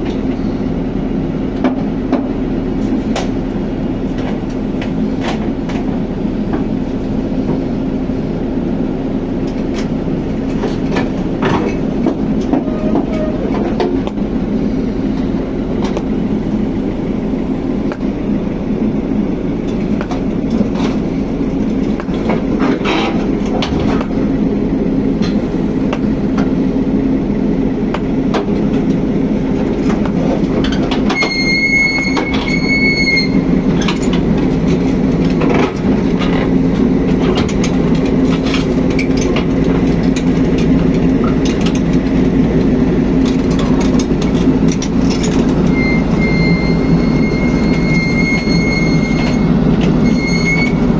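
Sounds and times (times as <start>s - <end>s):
diesel engine running: 0.0s - 50.9s
steel tracks clanking: 0.0s - 50.9s.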